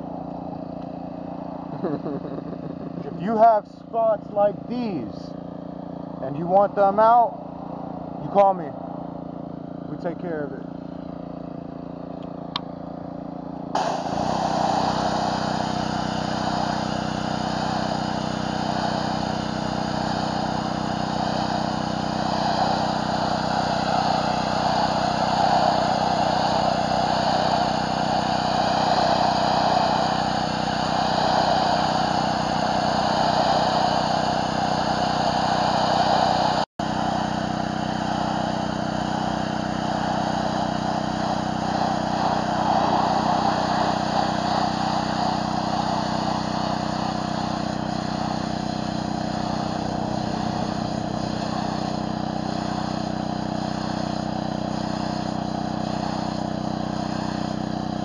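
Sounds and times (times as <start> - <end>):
pressure washer engine running: 0.0 - 58.0
high-pressure water hissing: 1.2 - 5.1, 13.8 - 58.0.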